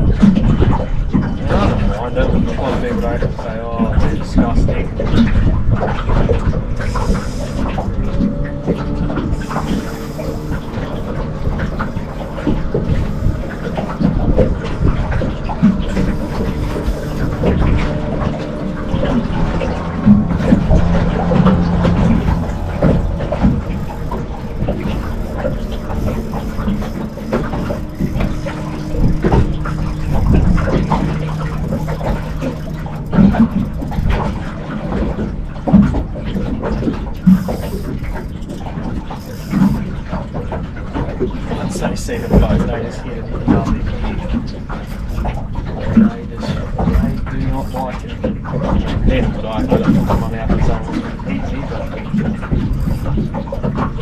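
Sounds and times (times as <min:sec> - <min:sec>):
boat motor humming: 0:00.0 - 0:54.0
water splashing: 0:00.0 - 0:54.0.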